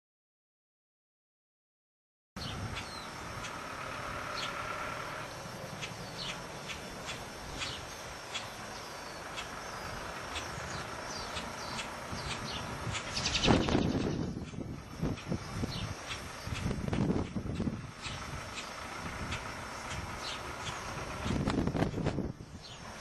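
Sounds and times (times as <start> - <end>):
low background rumble: 2.4 - 23.0
small birds chirping: 2.4 - 23.0.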